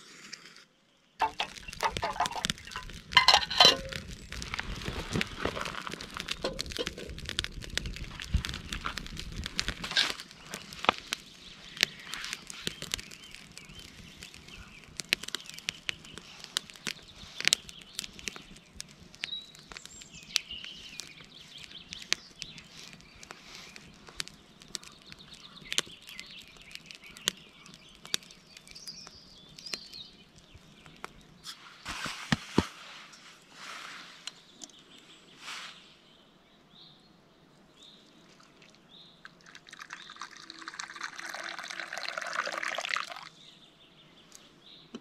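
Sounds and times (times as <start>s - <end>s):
campfire crackling and popping: 1.2s - 32.8s, 34.2s - 35.1s, 37.5s - 43.6s.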